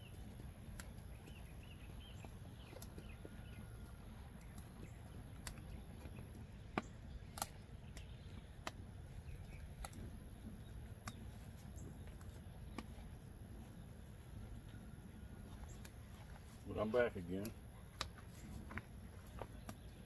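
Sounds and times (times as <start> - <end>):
faint low rumble: 0.0 - 20.0
wood fire crackling: 0.0 - 20.0.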